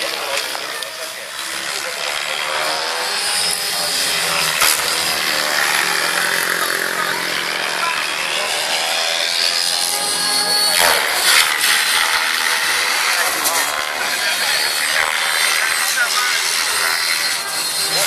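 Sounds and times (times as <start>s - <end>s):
rc helicopter motor whine: 0.0s - 18.0s.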